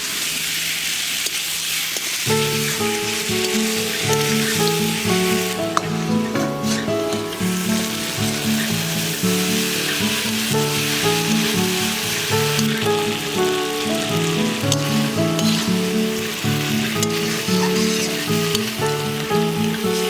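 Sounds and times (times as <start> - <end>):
food sizzling in hot oil: 0.0 - 20.0
background music: 2.3 - 20.0.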